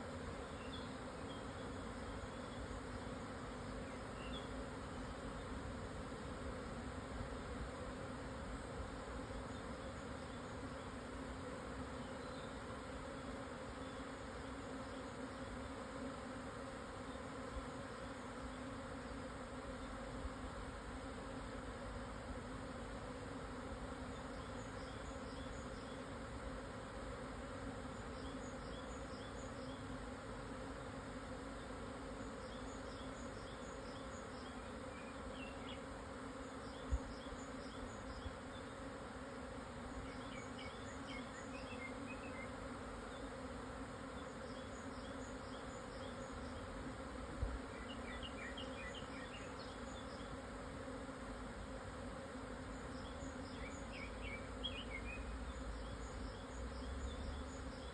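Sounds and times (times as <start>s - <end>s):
bees buzzing: 0.0s - 57.9s.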